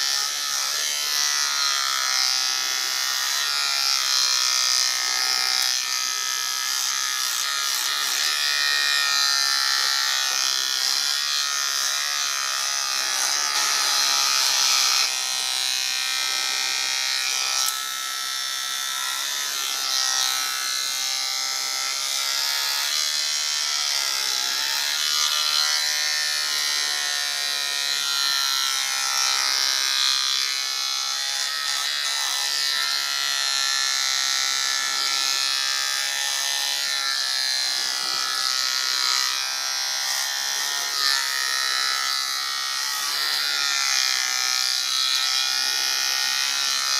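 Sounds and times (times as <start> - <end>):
electric hair clipper buzzing: 0.0 - 46.9.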